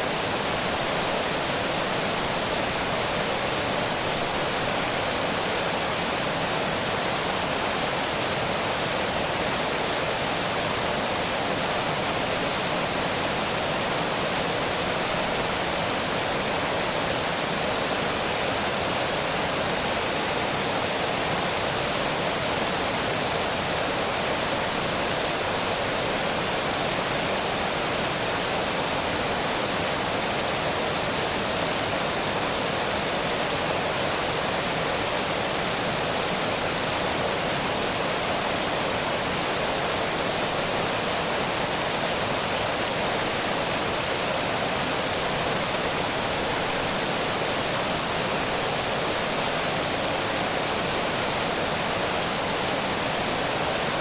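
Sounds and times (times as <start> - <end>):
water rushing over dam: 0.0 - 54.0.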